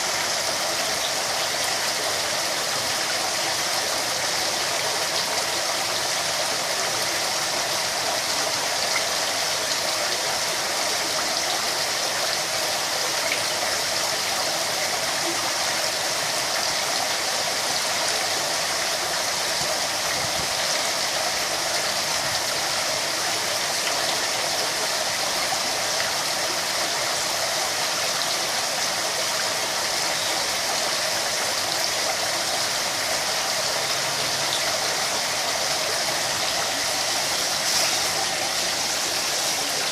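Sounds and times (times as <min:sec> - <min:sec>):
water running into a pond: 0:00.0 - 0:39.9.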